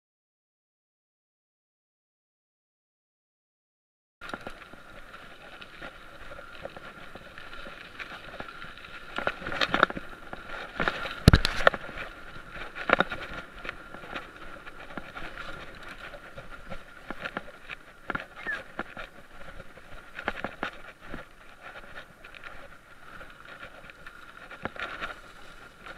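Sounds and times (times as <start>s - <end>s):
bike rattles and knocks: 4.2s - 25.9s
bike tyre and drivetrain noise: 4.2s - 25.9s.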